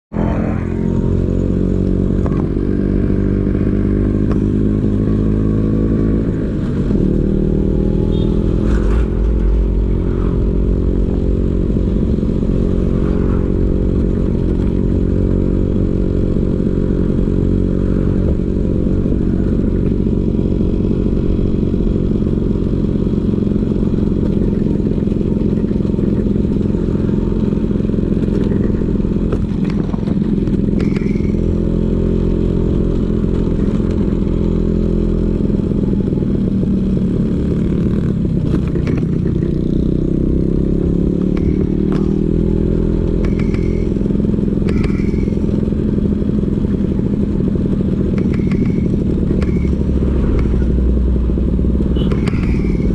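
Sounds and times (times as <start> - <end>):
scooter engine running: 9.1 - 52.9.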